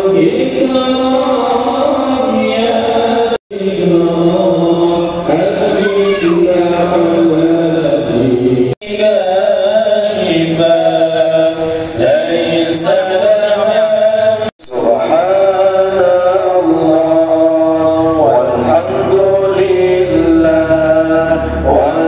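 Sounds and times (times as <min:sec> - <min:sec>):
person chanting recitation: 0:00.0 - 0:22.0.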